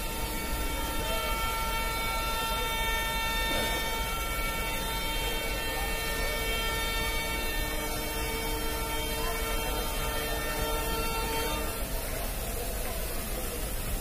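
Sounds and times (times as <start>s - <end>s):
high multi-tone whine: 0.0s - 14.0s
train low rumble: 0.0s - 14.0s.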